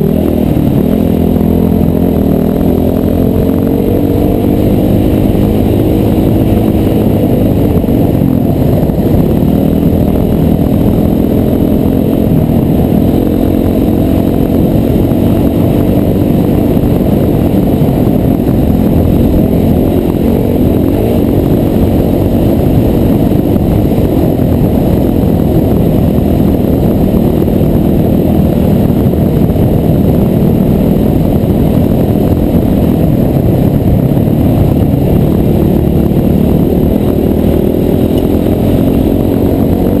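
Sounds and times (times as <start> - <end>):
dirt bike engine cruising: 0.0 - 40.0
wind rushing: 0.0 - 40.0.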